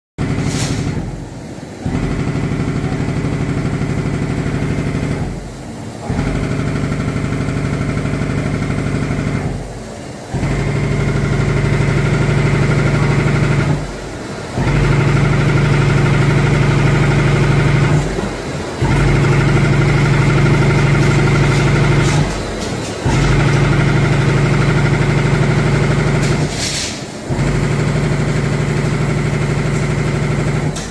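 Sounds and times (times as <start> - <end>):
perforating machine motor hum: 0.2 - 30.9.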